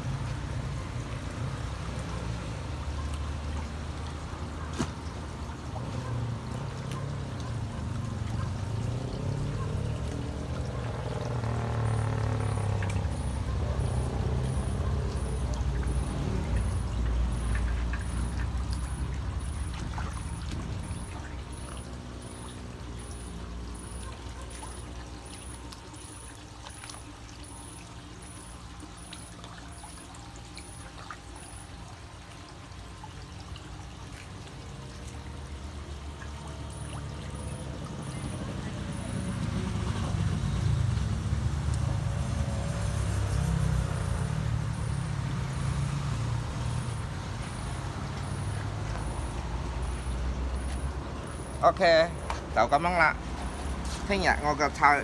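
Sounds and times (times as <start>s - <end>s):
water pouring and trickling: 0.0s - 55.0s.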